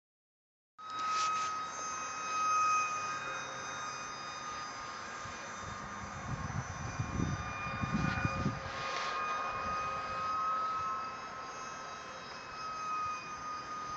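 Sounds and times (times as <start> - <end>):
model jet fan whine: 0.8 - 13.9.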